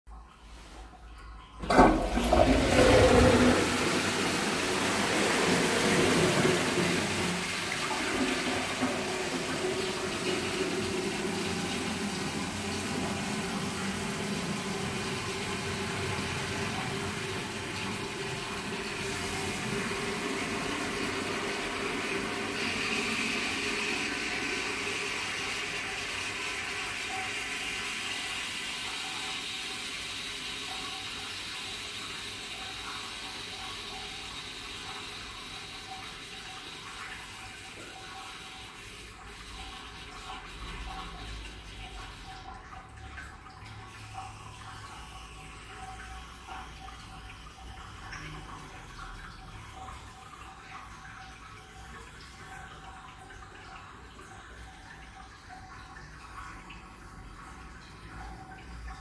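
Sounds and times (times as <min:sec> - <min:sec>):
toilet flushing: 0:00.2 - 0:59.0.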